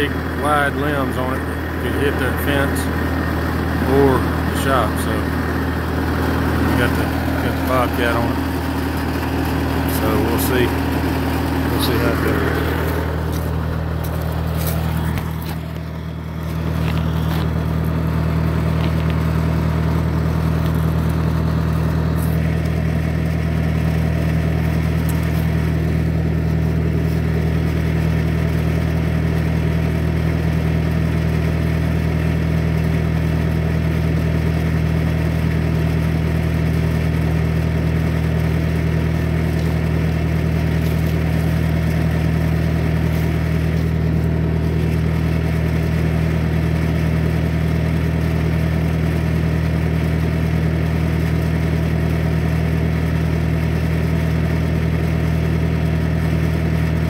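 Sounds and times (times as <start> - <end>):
skid-steer engine droning: 0.0 - 57.0.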